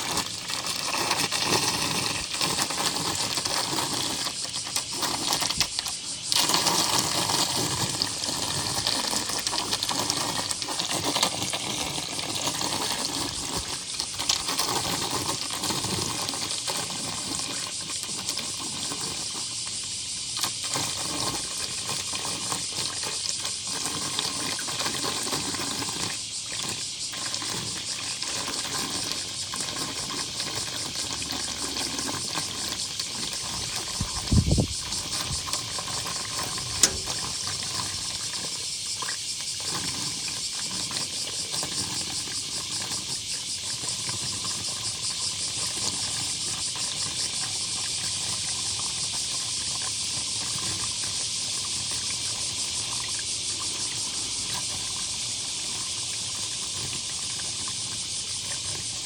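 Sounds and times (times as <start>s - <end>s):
water rushing down a drain: 0.0s - 59.0s.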